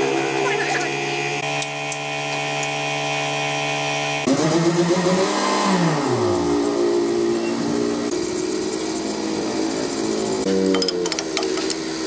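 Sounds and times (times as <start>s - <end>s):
motor running: 0.0s - 12.0s.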